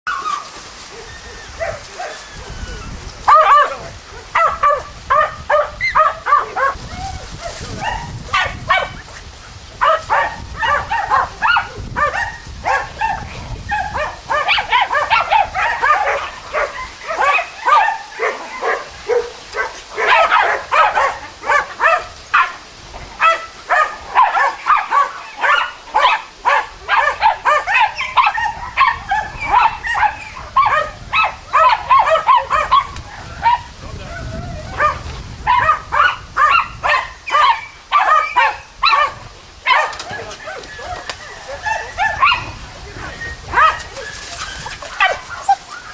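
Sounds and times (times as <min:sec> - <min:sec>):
dogs barking rapidly: 0:00.1 - 0:45.9.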